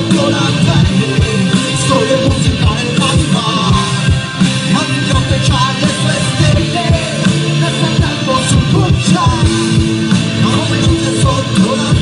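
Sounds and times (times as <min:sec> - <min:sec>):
bass: 0:00.0 - 0:12.0
drum beat: 0:00.0 - 0:12.0
electric guitar: 0:00.0 - 0:12.0
person singing: 0:00.0 - 0:12.0.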